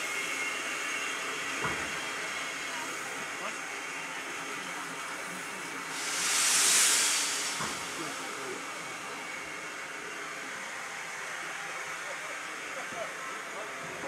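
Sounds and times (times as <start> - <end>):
steam hissing: 0.0 - 12.0
faint voices: 1.3 - 14.0.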